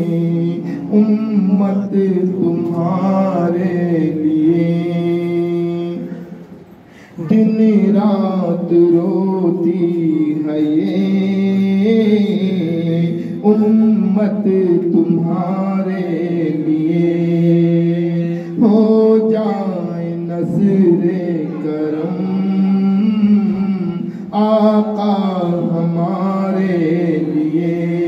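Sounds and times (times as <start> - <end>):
man singing into a microphone: 0.0 - 6.4, 7.1 - 28.0.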